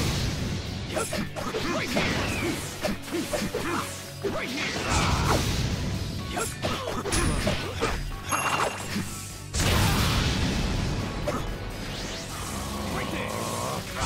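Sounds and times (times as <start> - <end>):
soundtrack music: 0.0 - 14.0.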